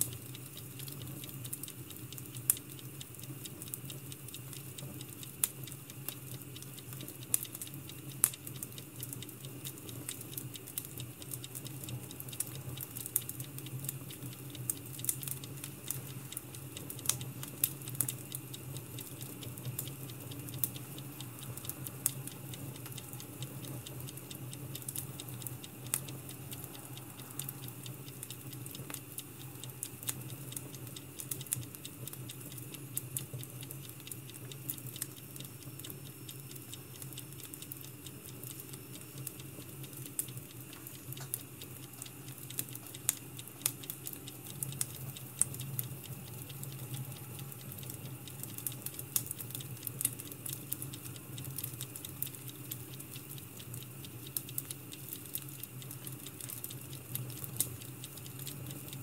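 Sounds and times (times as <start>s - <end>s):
firewood crackling and popping: 0.0s - 26.1s, 27.1s - 58.9s
steady low hum: 0.0s - 59.0s.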